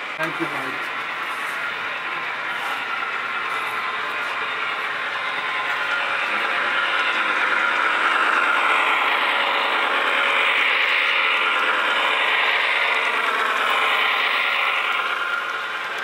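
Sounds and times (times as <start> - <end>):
gearing whirring: 0.0 - 16.0
model locomotive rolling past: 0.1 - 16.0.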